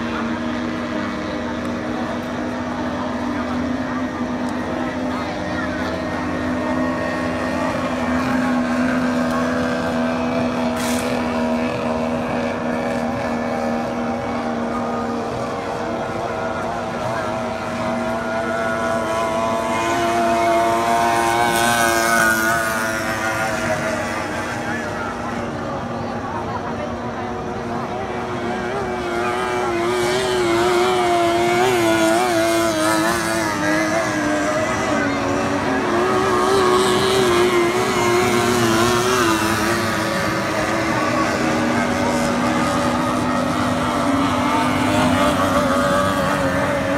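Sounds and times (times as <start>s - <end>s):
powerboat engines whining: 0.0s - 46.9s.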